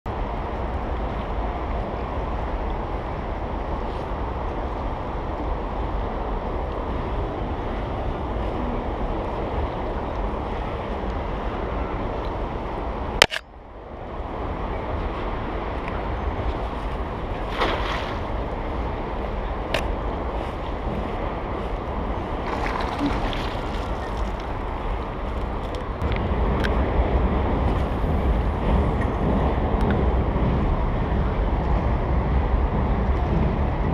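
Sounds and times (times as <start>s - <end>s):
wind rumble on microphone: 0.1s - 33.9s.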